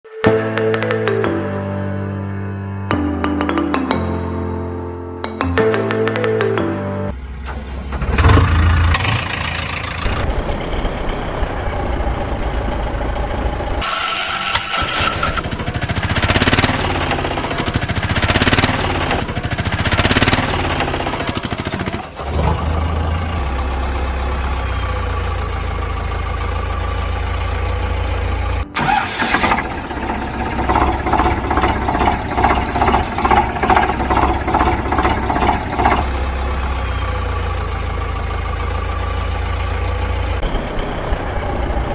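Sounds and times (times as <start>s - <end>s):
vehicle engine starting and running: 5.6s - 41.9s.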